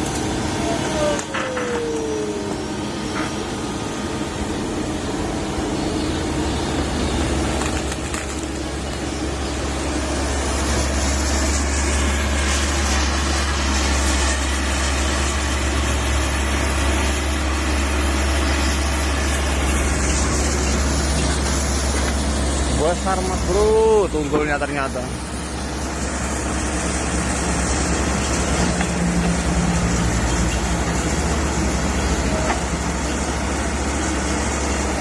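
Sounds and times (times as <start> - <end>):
excavator diesel engine: 0.0 - 35.0.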